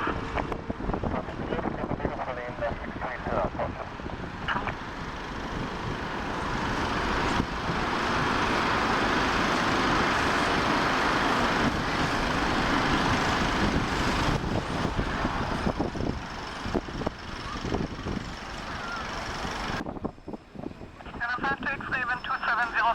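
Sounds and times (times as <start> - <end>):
jet engines passing: 0.0 - 22.9.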